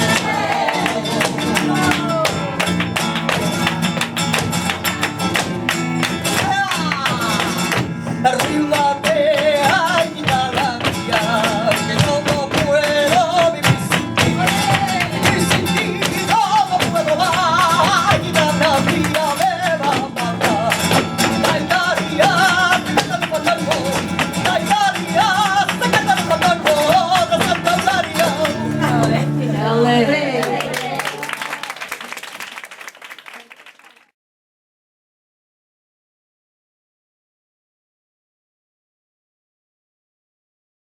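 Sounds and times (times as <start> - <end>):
flamenco guitar: 0.0 - 34.0.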